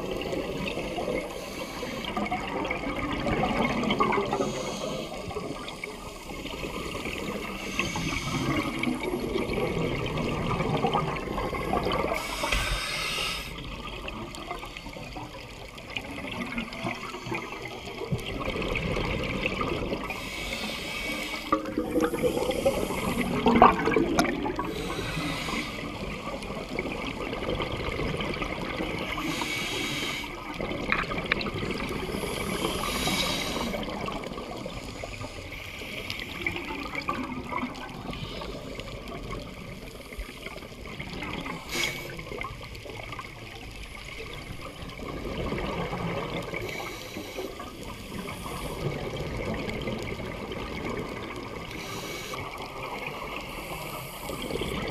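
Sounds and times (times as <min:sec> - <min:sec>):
exhaled bubbles rushing: 0:00.0 - 0:12.6, 0:13.4 - 0:54.9
underwater gurgling water hiss: 0:00.0 - 0:54.9.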